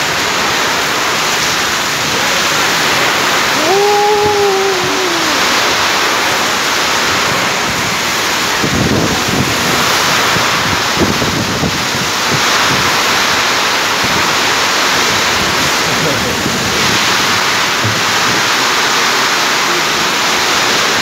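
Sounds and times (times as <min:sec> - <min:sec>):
heavy rain on pavement: 0:00.0 - 0:21.0
wind buffeting microphone: 0:00.0 - 0:21.0.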